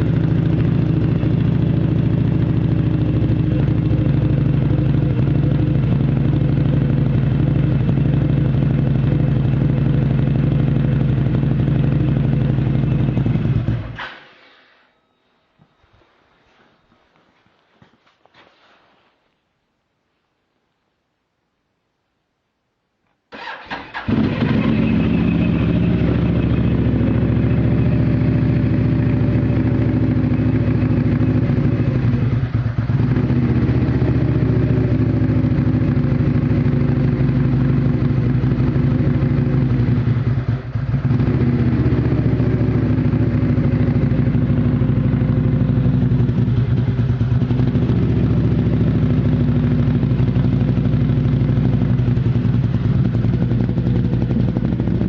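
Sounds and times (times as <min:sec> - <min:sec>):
car engine cranking and idling: 0:00.0 - 0:14.0, 0:23.3 - 0:55.0.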